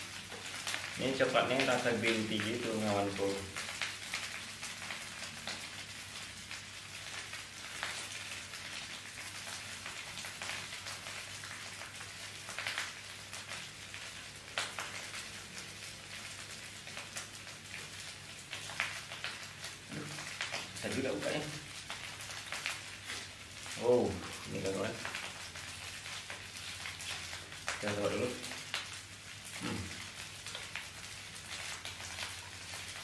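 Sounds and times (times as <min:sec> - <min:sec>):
crackly hiss: 0:00.0 - 0:33.0.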